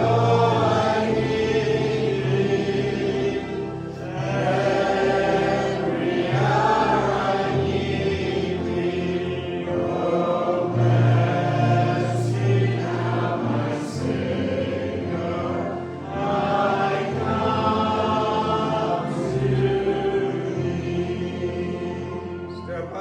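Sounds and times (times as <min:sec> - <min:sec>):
congregation singing a hymn: 0:00.0 - 0:23.0.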